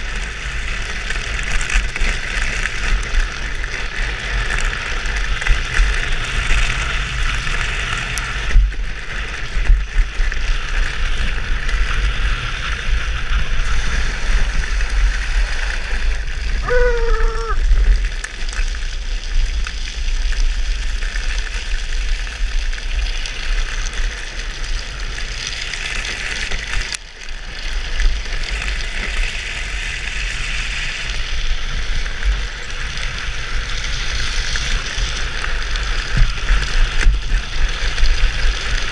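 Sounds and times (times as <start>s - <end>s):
wheels scraping over asphalt: 0.0s - 38.9s
wind rumble on microphone: 0.0s - 38.9s.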